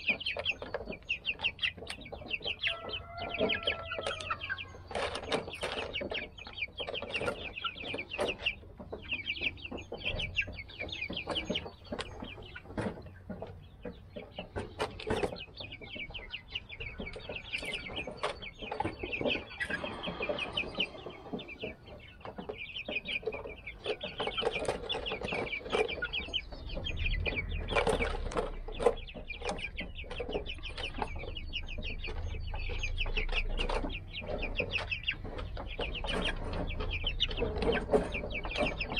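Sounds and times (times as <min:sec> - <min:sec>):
chickens clucking and peeping: 0:00.0 - 0:38.9.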